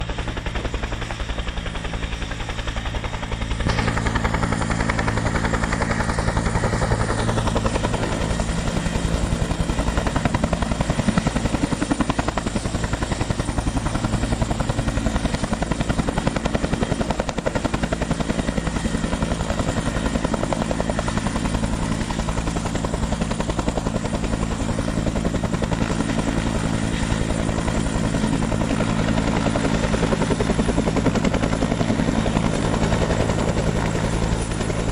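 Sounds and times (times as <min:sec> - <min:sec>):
helicopter rotor beating: 0:00.0 - 0:34.9.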